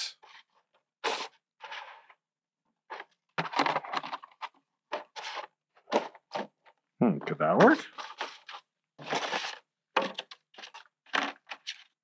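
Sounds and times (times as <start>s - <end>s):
plastic containers crinkling and scraping: 0.2s - 2.2s, 2.8s - 6.8s, 7.6s - 12.0s.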